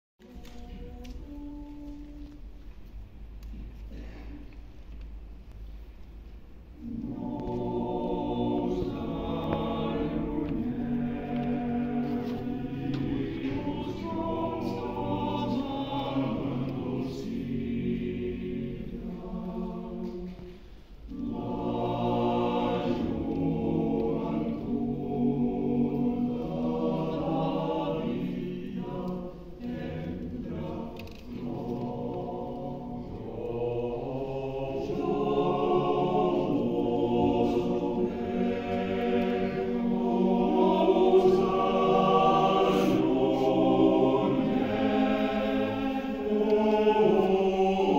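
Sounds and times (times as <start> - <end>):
choir singing: 0.2 - 2.4, 6.7 - 47.9.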